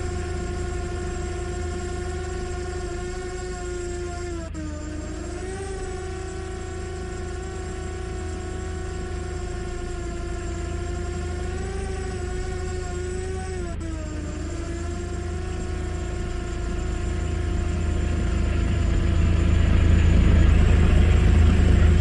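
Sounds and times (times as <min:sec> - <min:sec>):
drone propellers whining: 0:00.0 - 0:22.0.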